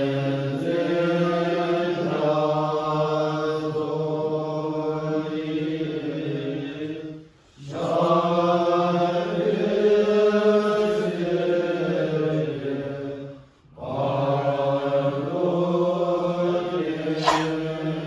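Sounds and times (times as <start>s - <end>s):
monks chanting: 0.0s - 18.0s.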